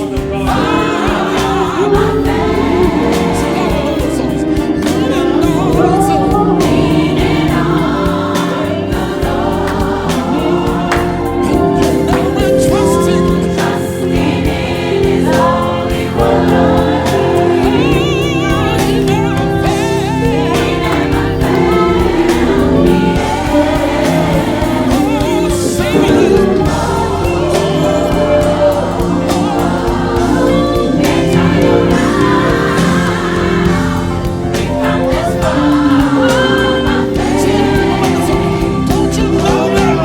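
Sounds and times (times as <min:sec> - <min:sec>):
gospel choir singing: 0:00.0 - 0:40.0.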